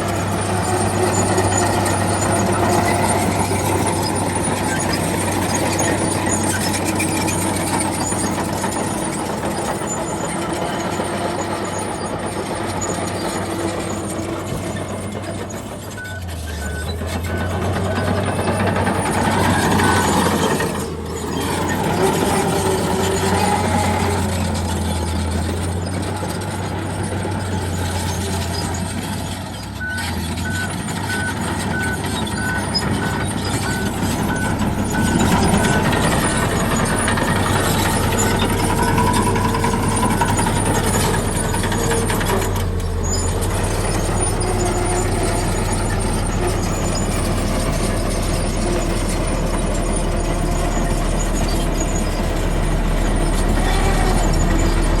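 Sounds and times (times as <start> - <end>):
diesel engine hum: 0.0 - 55.0.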